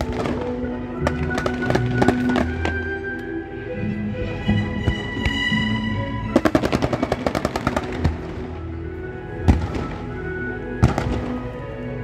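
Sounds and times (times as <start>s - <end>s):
fireworks reports: 0.0s - 3.2s, 4.6s - 11.7s
music playing: 0.0s - 12.0s.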